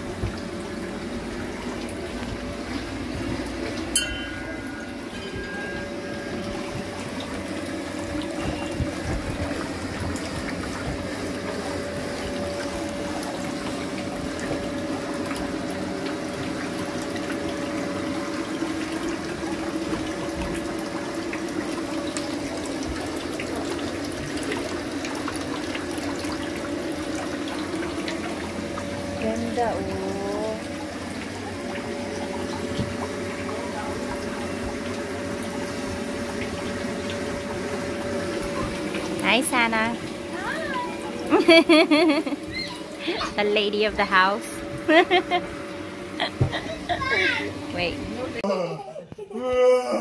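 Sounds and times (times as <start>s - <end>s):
water trickling and splashing: 0.0s - 48.4s
steady hum: 0.0s - 50.0s.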